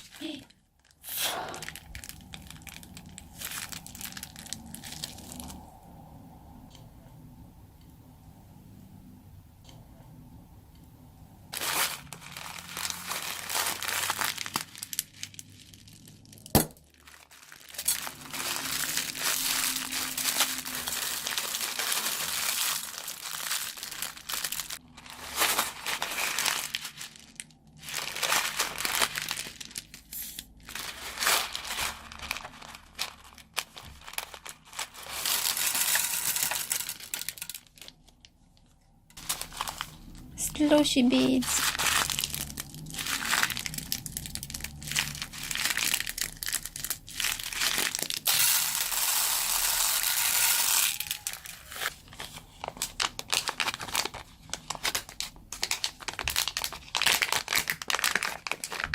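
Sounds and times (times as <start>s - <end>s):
plastic bag crinkling: 0.0s - 5.7s, 11.5s - 58.9s.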